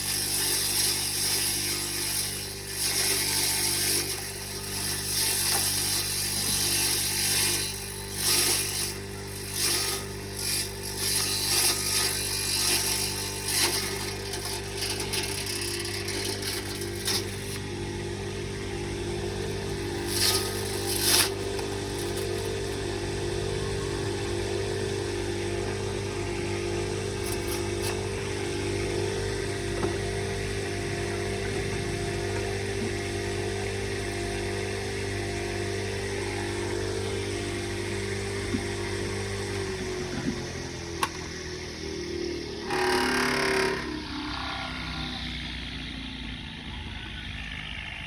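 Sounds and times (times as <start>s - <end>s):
grass chopper motor running: 0.0s - 48.0s.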